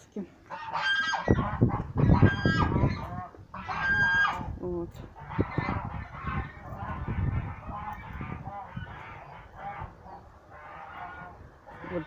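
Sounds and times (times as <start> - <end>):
geese honking: 0.5 - 12.0
wind buffeting microphone: 1.0 - 12.0.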